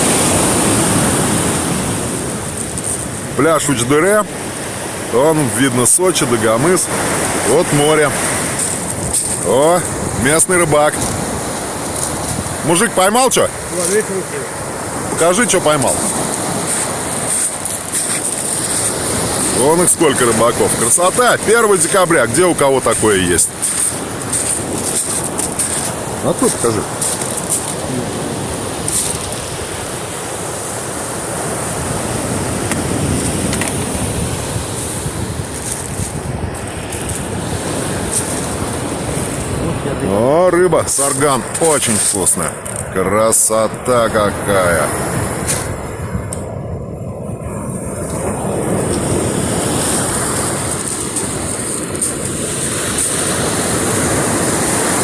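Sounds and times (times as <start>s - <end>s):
surf washing onto beach: 0.0s - 55.0s
wind buffeting microphone: 6.0s - 55.0s.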